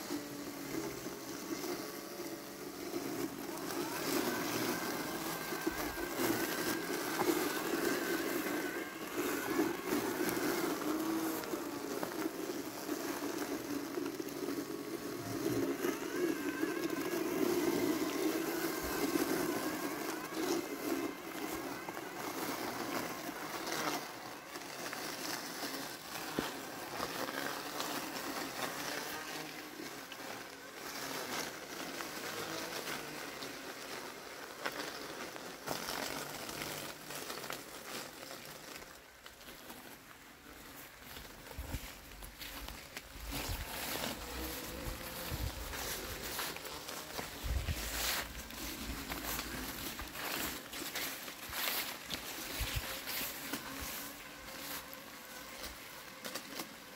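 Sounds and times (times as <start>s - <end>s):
robotic lawn mower motor hum: 0.0s - 56.9s.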